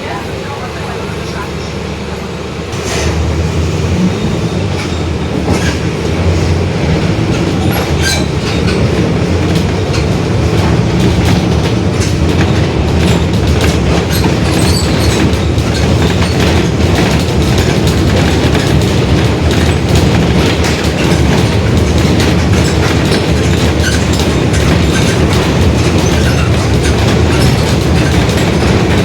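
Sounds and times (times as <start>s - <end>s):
bus engine drone: 0.0s - 29.0s
rattles and clicks: 4.6s - 29.0s.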